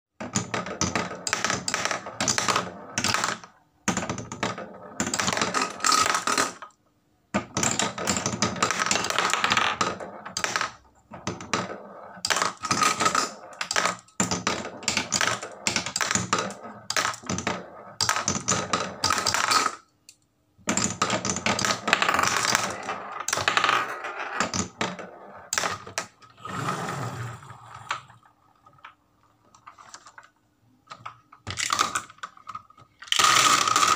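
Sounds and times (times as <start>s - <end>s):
marbles clattering into wooden tray: 0.2s - 6.7s, 7.4s - 19.9s, 20.6s - 26.2s, 27.8s - 33.9s.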